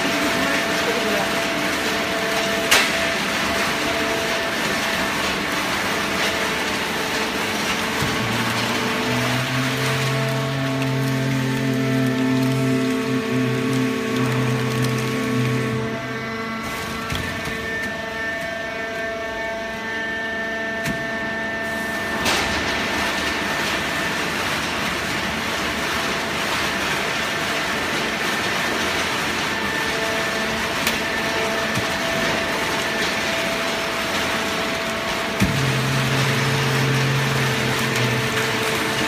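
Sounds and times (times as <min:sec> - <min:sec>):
machinery hum: 0:00.0 - 0:39.0.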